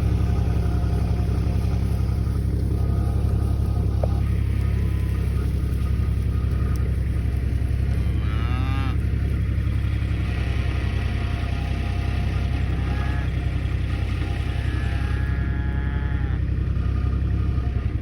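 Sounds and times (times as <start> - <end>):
cow mooing: 0.0 - 16.5
steady low rumble: 0.0 - 18.0.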